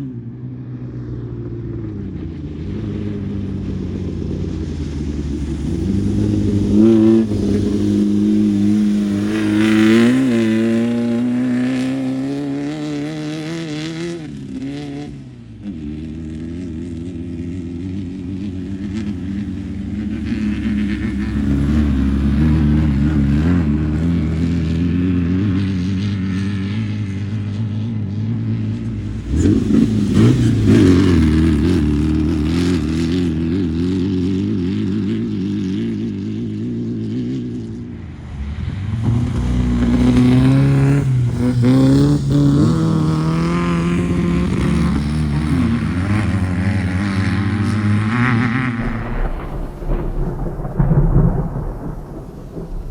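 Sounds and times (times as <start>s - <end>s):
race vehicle engines passing by: 0.0s - 50.4s.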